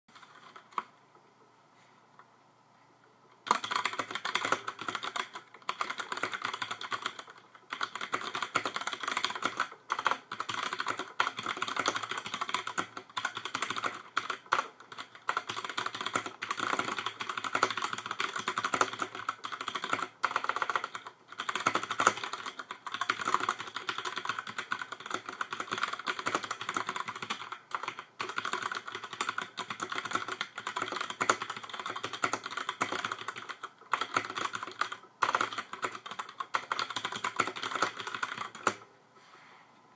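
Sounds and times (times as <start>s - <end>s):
mechanical keyboard typing: 3.4s - 38.9s.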